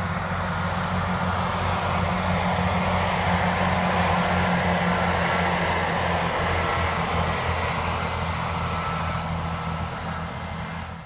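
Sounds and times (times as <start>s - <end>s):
diesel train engine drone: 0.0s - 11.0s
train wheel and rail noise: 0.0s - 11.0s.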